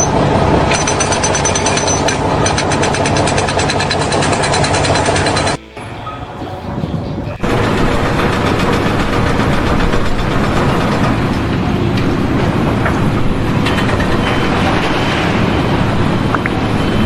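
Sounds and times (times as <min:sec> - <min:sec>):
heavy machinery rumbling: 0:00.0 - 0:17.0.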